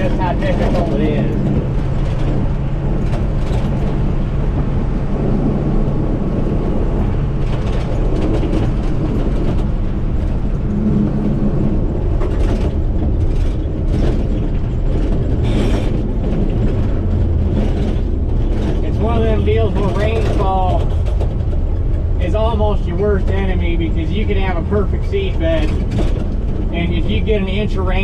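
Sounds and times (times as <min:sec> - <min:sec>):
combine harvester engine drone: 0:00.0 - 0:28.0
rattling machinery: 0:00.0 - 0:28.0.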